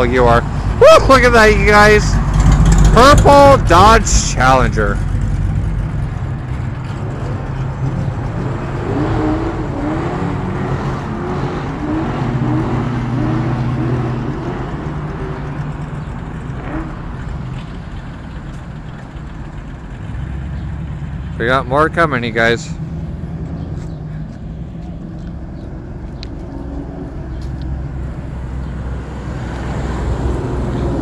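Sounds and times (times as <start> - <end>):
cars driving past: 0.0 - 31.0.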